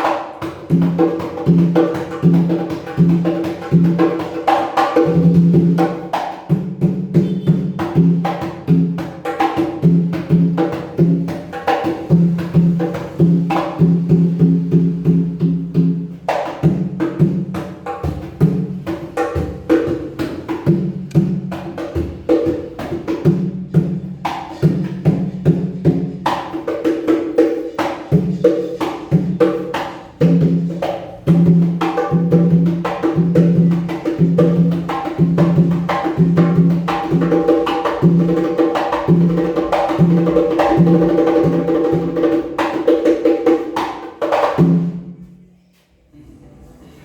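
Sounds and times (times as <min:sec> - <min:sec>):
congas played by hand: 0:00.0 - 0:45.5.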